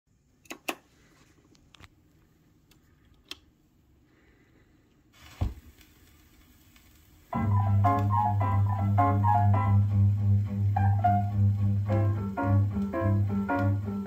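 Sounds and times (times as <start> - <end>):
record surface hiss: 0.1 - 14.0.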